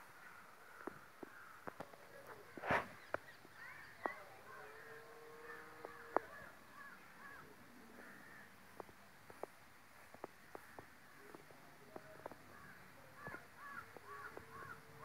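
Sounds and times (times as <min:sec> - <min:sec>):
faint bird chirping calls: 0:00.0 - 0:15.0.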